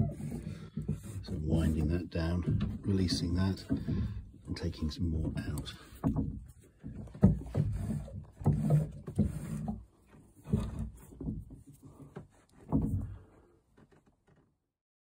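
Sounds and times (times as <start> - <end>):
low knocks and rubbing: 0.0 - 13.5.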